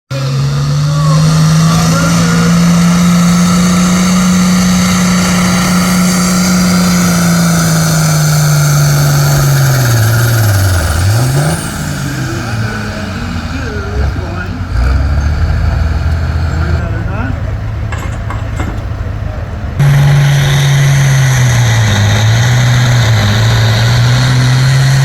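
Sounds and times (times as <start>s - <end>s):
tractor engine labouring: 0.1s - 25.0s.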